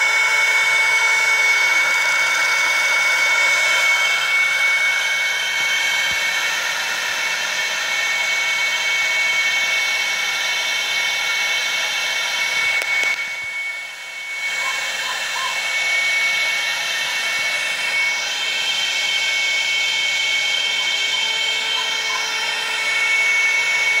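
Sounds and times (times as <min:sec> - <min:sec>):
laser engraving machine whine: 0:00.0 - 0:24.0.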